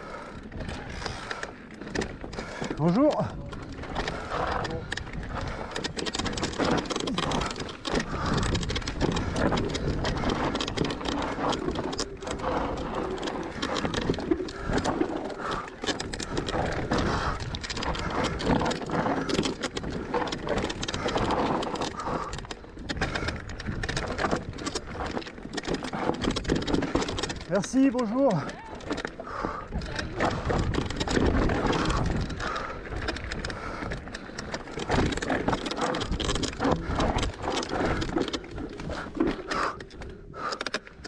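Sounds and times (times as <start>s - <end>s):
bike clattering and rattling: 0.0s - 41.0s.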